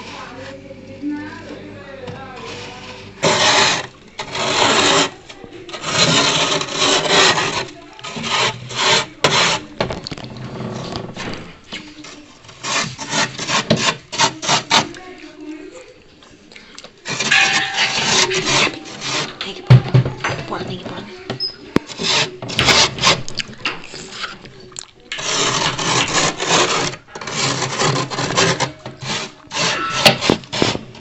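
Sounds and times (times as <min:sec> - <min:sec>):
frost scraping: 0:02.3 - 0:15.5, 0:17.0 - 0:31.0.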